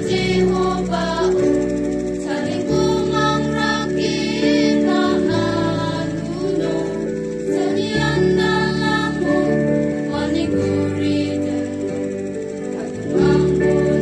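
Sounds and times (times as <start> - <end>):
choir singing a hymn: 0.0 - 14.0.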